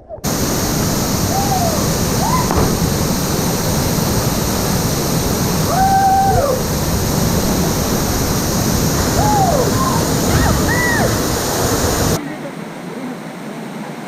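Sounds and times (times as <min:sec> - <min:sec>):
waterfall rushing: 0:00.2 - 0:12.2.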